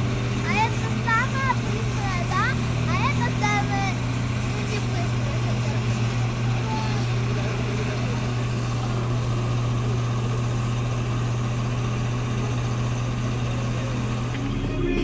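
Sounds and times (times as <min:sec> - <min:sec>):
heavy vehicle engine humming: 0:00.0 - 0:15.0
outdoor noise: 0:00.0 - 0:15.0.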